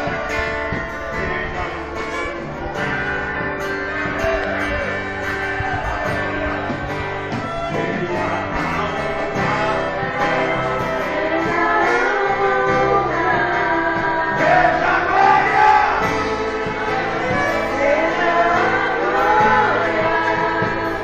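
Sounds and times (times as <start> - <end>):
gospel group singing: 0.0 - 21.0
guitar accompaniment: 0.0 - 21.0.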